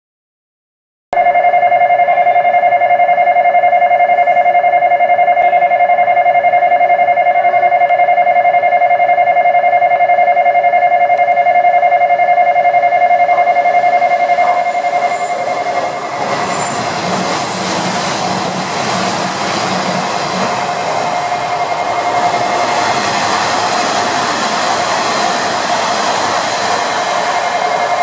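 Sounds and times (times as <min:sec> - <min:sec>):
train warning bell ringing: 0:01.2 - 0:28.0.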